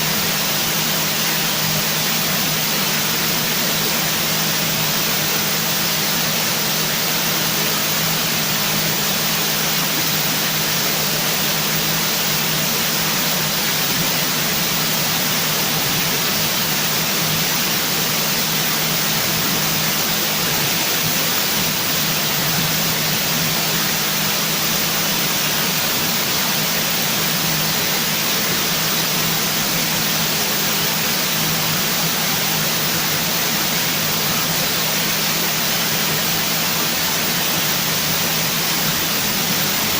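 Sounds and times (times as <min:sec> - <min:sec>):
loud steady hiss: 0:00.0 - 0:39.9.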